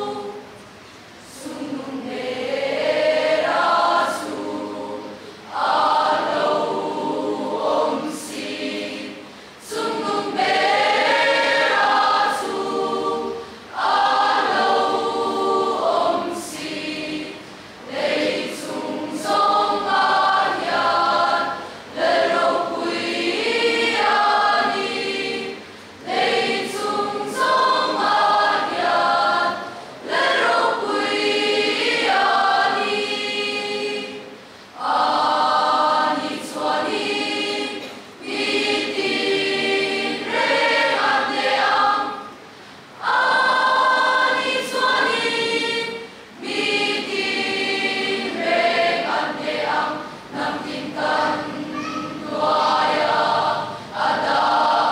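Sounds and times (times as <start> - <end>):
mixed choir singing a hymn: 0.0 - 54.9.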